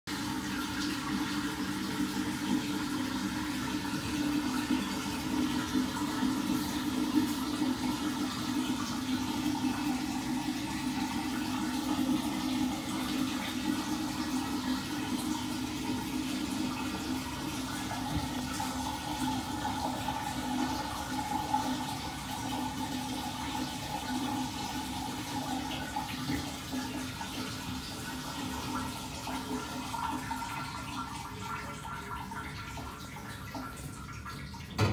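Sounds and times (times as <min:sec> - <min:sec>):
toilet flushing: 0:00.1 - 0:34.9.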